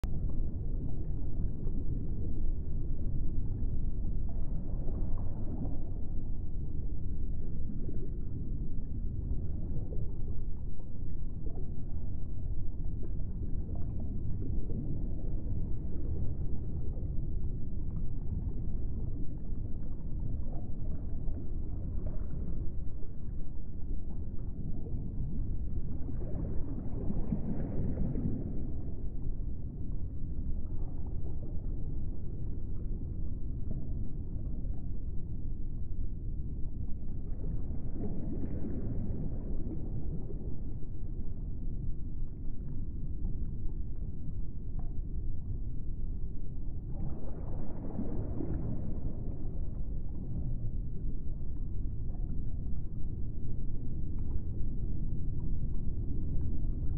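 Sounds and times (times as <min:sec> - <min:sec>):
deep rumbling ambient soundtrack: 0:00.0 - 0:56.9.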